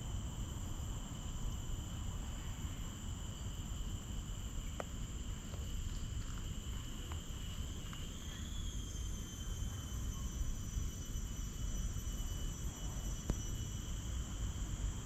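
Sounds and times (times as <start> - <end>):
high-pitched insect drone: 0.1 - 15.0.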